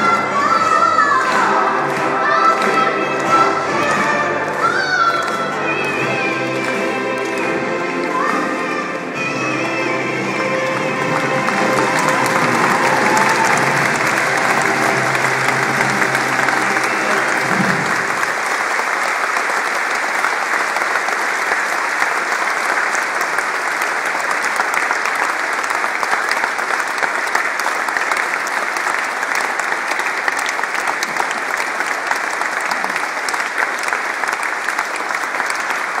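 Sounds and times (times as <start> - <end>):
crowd applauding: 0.0 - 36.0.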